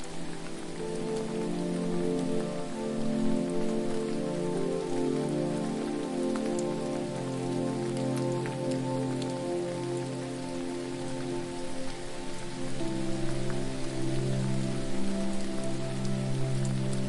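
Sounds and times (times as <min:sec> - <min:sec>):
ambient music pad: 0:00.0 - 0:17.0
falling water hiss: 0:00.0 - 0:17.0
water drops ticking: 0:00.0 - 0:17.0.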